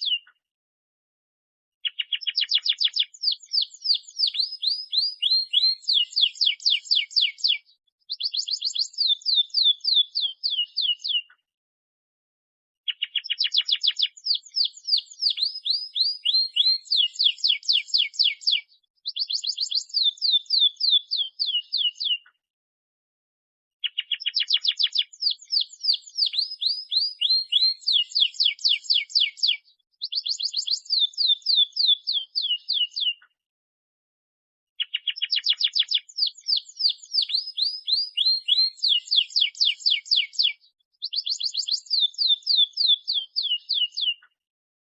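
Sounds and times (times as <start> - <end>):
canary singing trills: 0.0 - 0.4, 1.8 - 11.4, 12.9 - 22.3, 23.8 - 33.2, 34.8 - 44.3.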